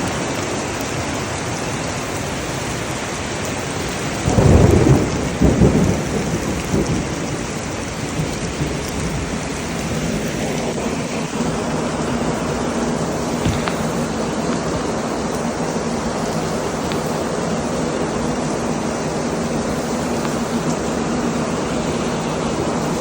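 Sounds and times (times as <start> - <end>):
heavy rain: 0.0 - 23.0
thunder rumbling: 1.8 - 23.0.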